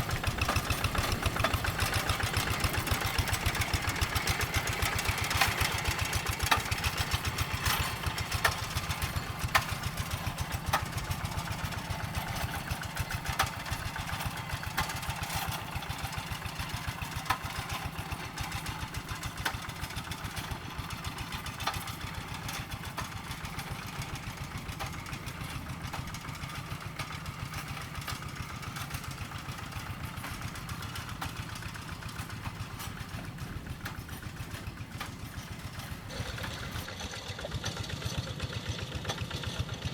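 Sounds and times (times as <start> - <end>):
sharp metallic clacks: 0.0 - 36.9
diesel engine chugging: 0.0 - 39.9.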